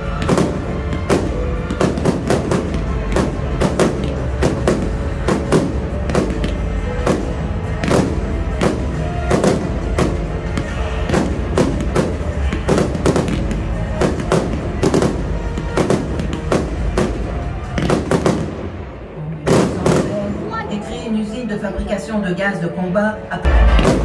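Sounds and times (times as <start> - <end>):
fireworks banging and crackling: 0.0 - 20.4, 23.5 - 24.0
music: 0.0 - 24.0.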